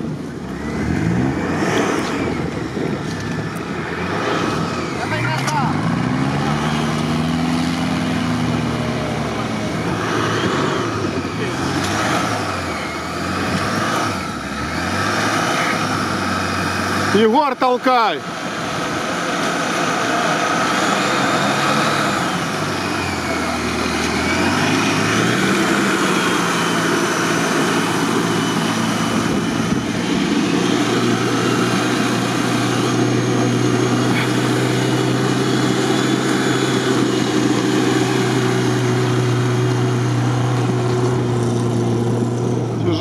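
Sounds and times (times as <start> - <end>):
car engine revving: 0.0 - 43.0
tyres spinning in snow: 0.0 - 43.0.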